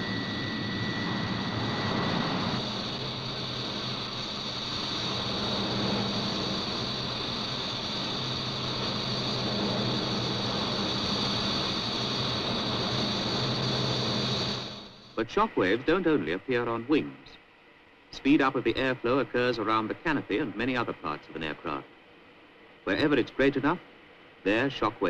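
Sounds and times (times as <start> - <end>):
jet aircraft cabin noise: 0.0 - 25.0.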